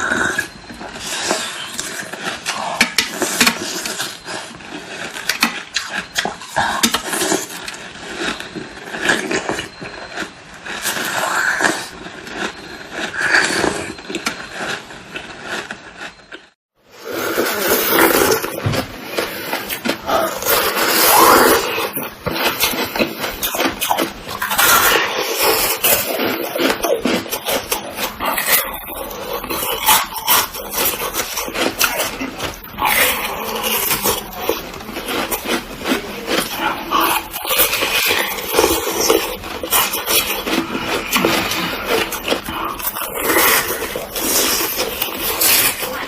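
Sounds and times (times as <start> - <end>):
crunching frozen ice: 0.0 - 46.0.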